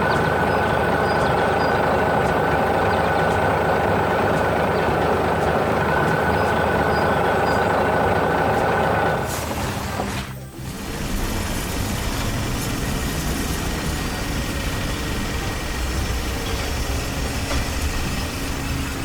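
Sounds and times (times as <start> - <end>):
heavy machine engine rumble: 0.0 - 19.0.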